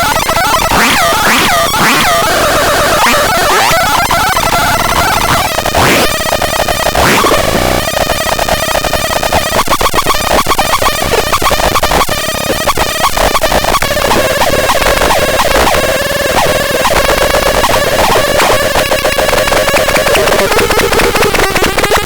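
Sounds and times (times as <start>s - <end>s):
electronic pitch glides: 0.0s - 22.0s
stuttering electronic pulses: 0.0s - 22.0s.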